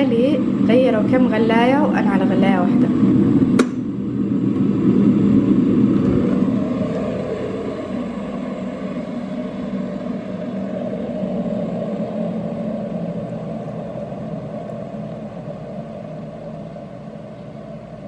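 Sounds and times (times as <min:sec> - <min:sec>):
electric kettle heating water: 0:00.0 - 0:18.0.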